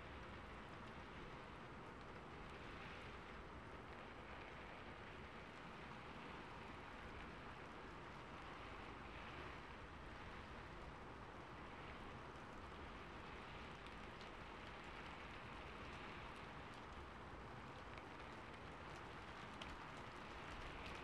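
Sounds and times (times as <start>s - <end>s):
faint rain hiss: 0.0s - 21.0s.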